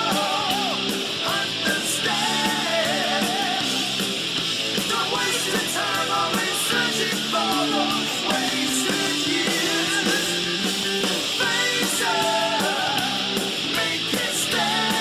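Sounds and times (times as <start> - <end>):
person singing: 0.0 - 4.2, 4.8 - 15.0
rock music with electric guitar: 0.0 - 15.0.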